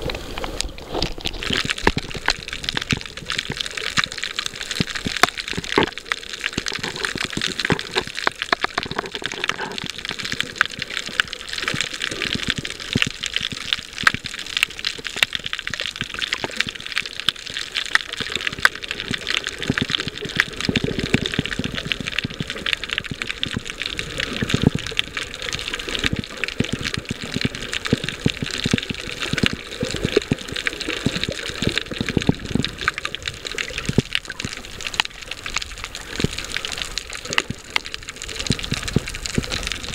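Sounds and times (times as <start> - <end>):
small crackling clicks: 0.0 - 39.9
underwater water rush: 0.0 - 39.9.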